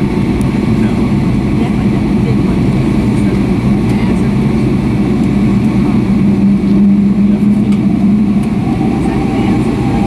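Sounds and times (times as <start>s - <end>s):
airliner engine hum: 0.0s - 10.0s
low rumble: 0.0s - 10.0s.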